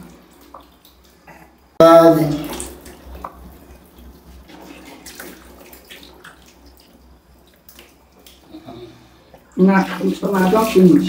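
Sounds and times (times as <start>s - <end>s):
bath water splashing: 0.0s - 11.0s.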